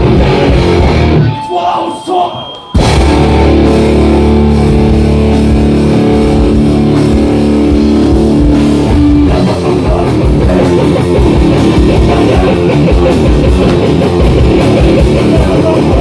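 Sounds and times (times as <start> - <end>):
punk band playing live: 0.0 - 16.0
distorted guitar chord ringing: 2.8 - 16.0.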